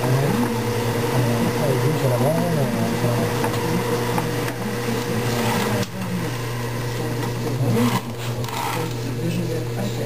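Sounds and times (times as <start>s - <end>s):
drill press motor humming: 0.0s - 10.0s.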